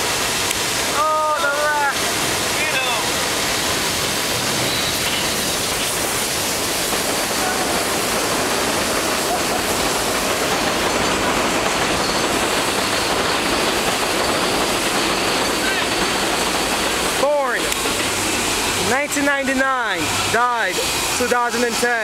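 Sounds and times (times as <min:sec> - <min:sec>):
steady loud rushing noise: 0:00.0 - 0:22.0.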